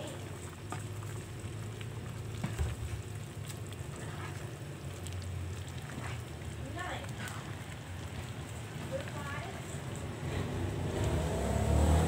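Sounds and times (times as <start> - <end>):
utensil stirring broth: 0.0 - 11.3
soup bubbling in a pot: 0.0 - 12.0.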